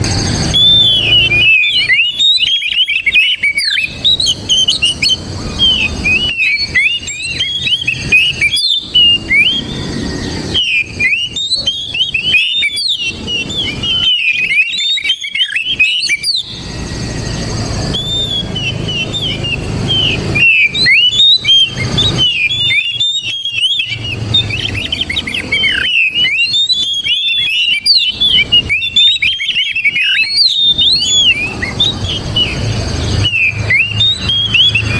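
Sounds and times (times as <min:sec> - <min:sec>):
bird singing high whistles: 0:00.0 - 0:34.9.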